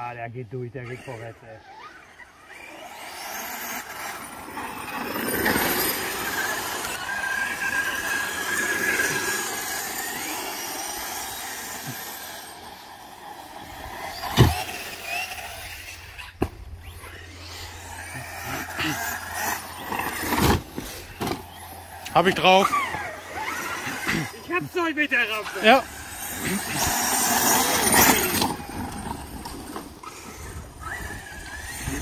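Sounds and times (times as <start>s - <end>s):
rc truck motor whine: 0.0s - 32.0s.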